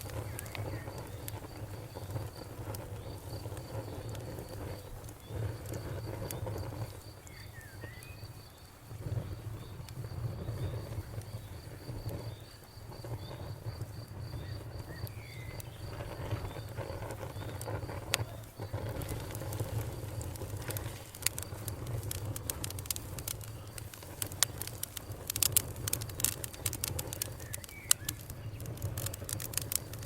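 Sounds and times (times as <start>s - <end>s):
campfire rumbling: 0.0s - 30.0s
cricket chirping: 0.0s - 30.0s
fire crackles and pops: 0.0s - 30.0s.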